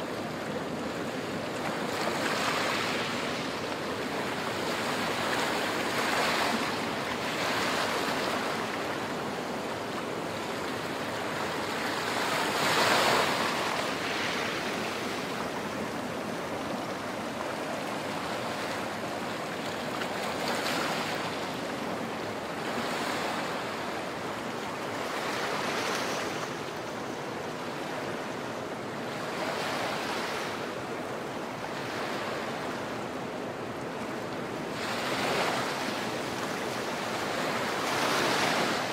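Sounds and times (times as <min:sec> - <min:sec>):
small waves washing over sand and rocks: 0:00.0 - 0:38.9.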